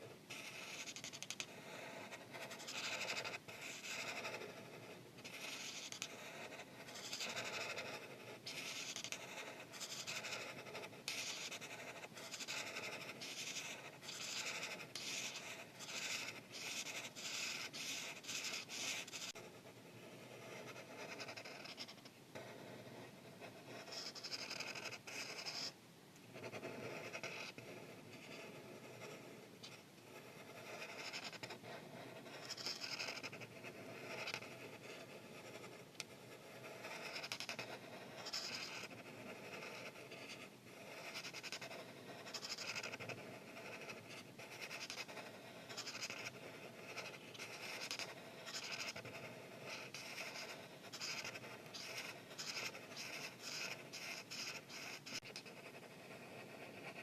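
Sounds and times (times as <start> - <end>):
marker scratching on paper: 0.0 - 25.8, 26.4 - 57.0.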